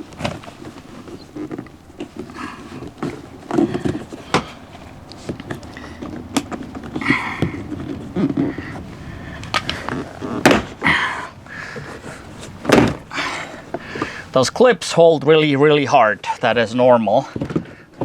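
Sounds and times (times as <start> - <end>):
plastic panel knocking and scraping: 0.0 - 14.5.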